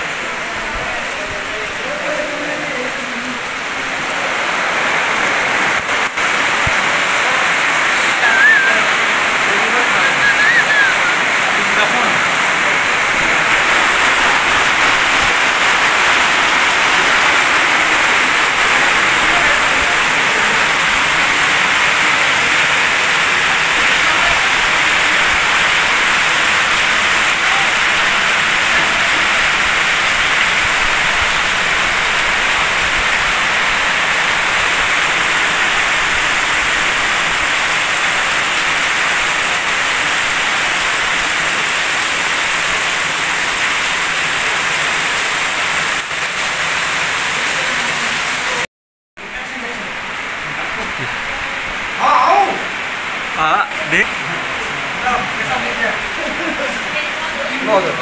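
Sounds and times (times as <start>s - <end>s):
heavy rain on concrete: 0.0s - 58.0s.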